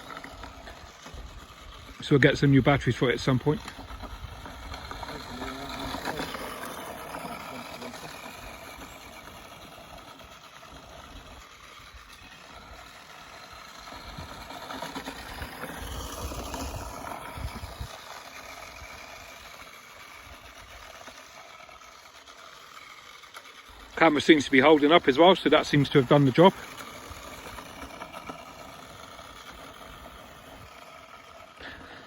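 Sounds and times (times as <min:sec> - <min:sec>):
toy car electric motor whining: 0:00.0 - 0:32.0.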